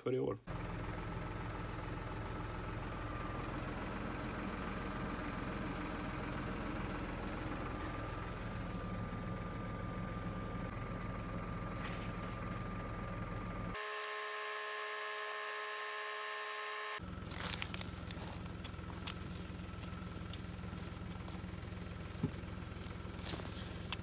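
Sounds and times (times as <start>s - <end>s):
tractor engine running: 0.5s - 24.0s.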